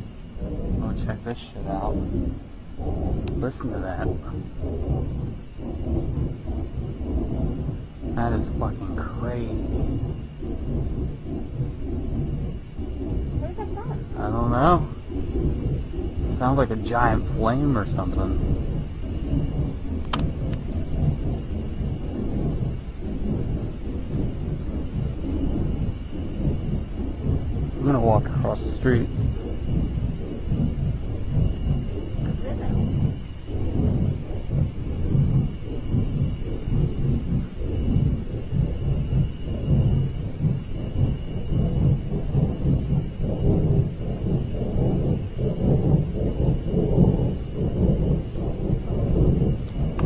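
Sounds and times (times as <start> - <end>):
deep continuous rumble: 0.0 - 50.0.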